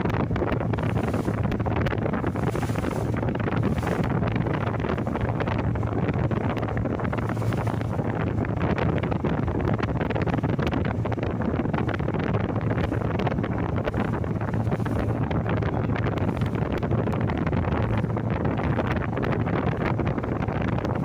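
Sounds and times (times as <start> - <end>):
sea water washing: 0.0 - 21.0
wind buffeting microphone: 0.0 - 21.0.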